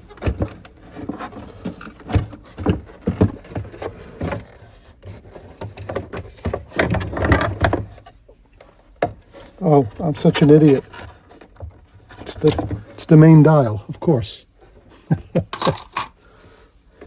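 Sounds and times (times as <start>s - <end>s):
radio chassis knocking and scraping: 0.0s - 14.1s.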